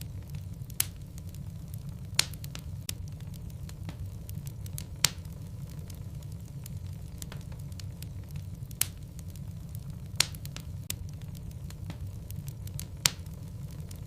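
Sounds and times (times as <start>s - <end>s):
logs burning in fireplace: 0.0s - 14.0s.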